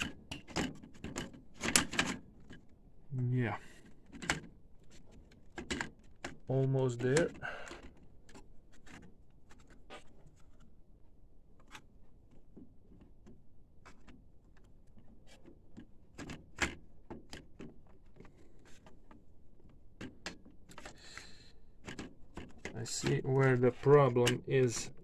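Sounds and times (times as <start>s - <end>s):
metal and plastic parts clicking: 0.0s - 2.8s, 3.8s - 10.7s, 11.6s - 21.0s, 21.8s - 25.0s.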